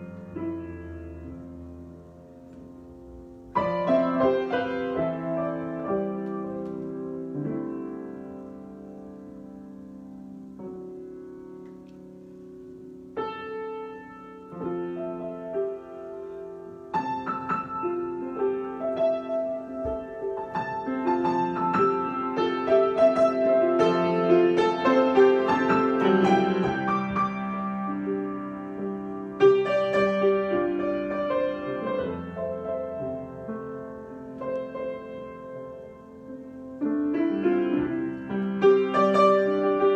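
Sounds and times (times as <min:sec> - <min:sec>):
solo piano improvising: 0:00.0 - 0:39.9.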